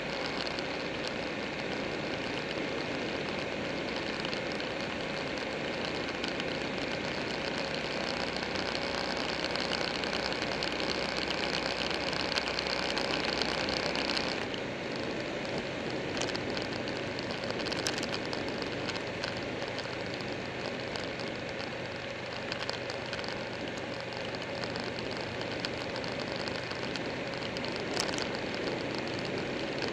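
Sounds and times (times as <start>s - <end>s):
motorcycle engine running: 0.0s - 29.9s
wind and road noise: 0.0s - 29.9s.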